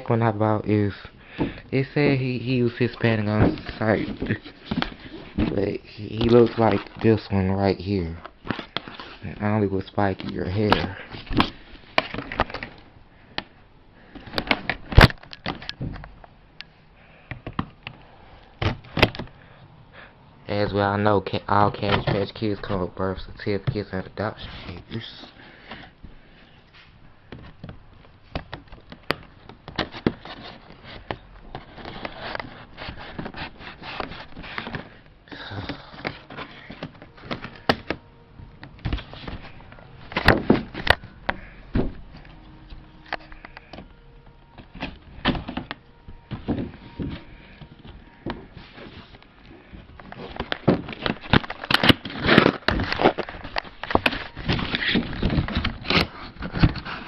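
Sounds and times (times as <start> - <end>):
cardboard and plastic rustling: 0.0 - 16.4, 17.2 - 19.4, 20.6 - 57.0.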